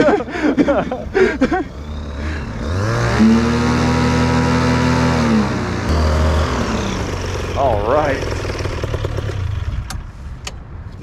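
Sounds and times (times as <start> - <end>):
paramotor engine revving: 0.0 - 10.0.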